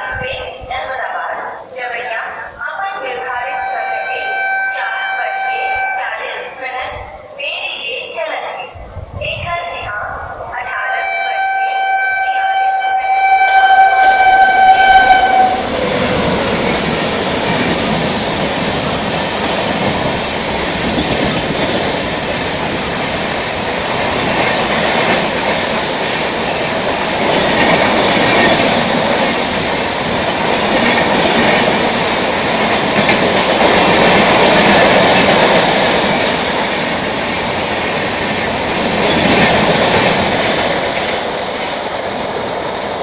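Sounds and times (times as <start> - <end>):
train rushing past: 0.0 - 43.0.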